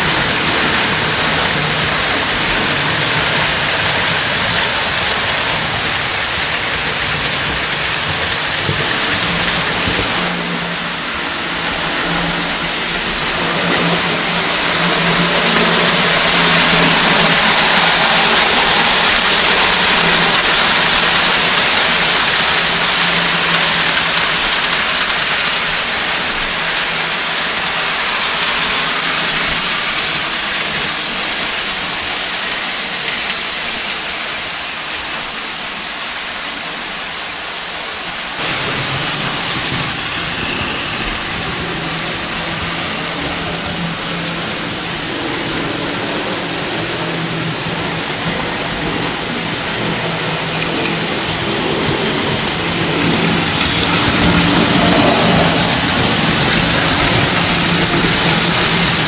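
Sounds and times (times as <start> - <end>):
toy trains running on track: 0.0 - 59.0.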